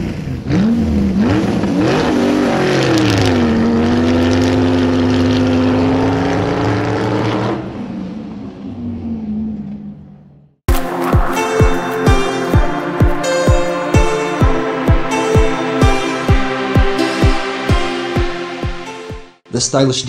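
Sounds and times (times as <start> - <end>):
engine revving: 0.0 - 19.4
lower tone: 2.6 - 19.3.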